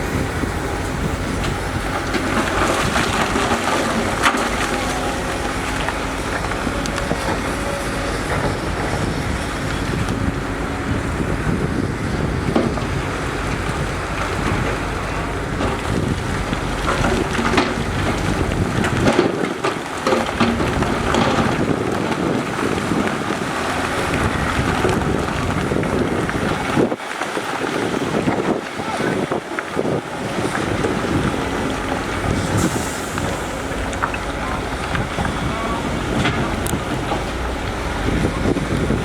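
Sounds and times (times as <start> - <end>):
heavy machinery rumble: 0.0 - 39.0
wind buffeting microphone: 0.0 - 39.0.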